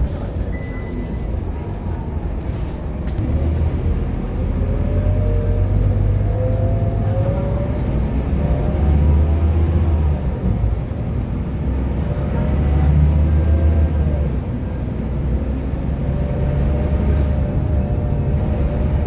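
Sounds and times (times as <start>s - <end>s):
bus diesel engine accelerating: 0.0s - 19.0s.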